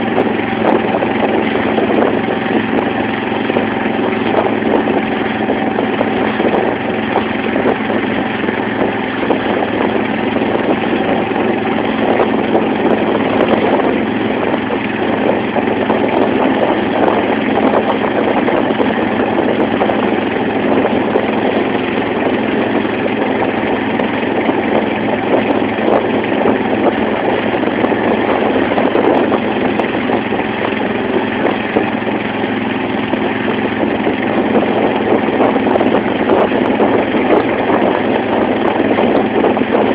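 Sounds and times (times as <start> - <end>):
motorboat engine running: 0.0 - 39.9
water splashing along hull: 0.0 - 39.9.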